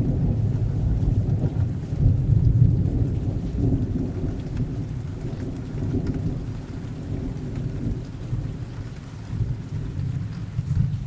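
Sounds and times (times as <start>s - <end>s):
low rumble of thunder: 0.0s - 11.0s
steady rain: 0.0s - 11.0s.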